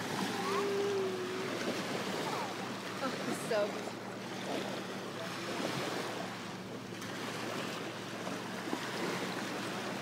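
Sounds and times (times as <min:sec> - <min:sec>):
distant motorboats humming: 0:00.0 - 0:10.0
small waves lapping on rocks: 0:00.0 - 0:10.0.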